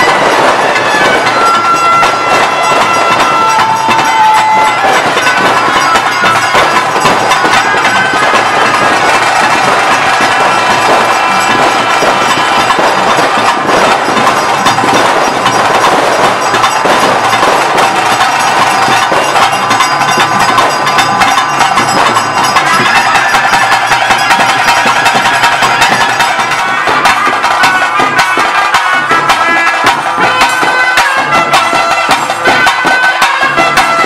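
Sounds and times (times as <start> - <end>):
fast drum strokes: 0.0 - 34.0
wind instrument melody: 0.0 - 34.0
wood-block strokes: 0.0 - 34.0.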